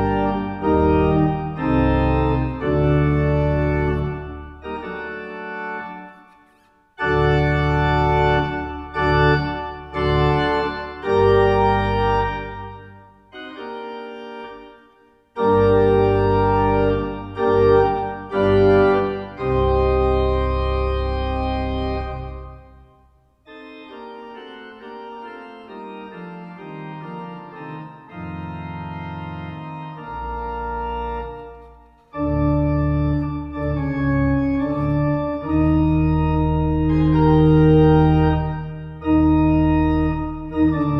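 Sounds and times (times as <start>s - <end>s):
organ playing sustained chords: 0.0s - 40.9s.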